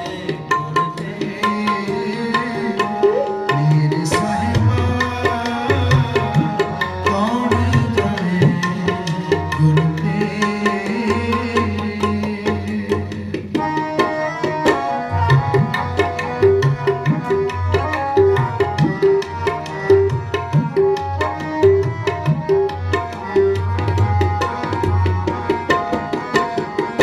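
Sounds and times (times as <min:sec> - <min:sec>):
tabla rhythm: 0:00.0 - 0:27.0.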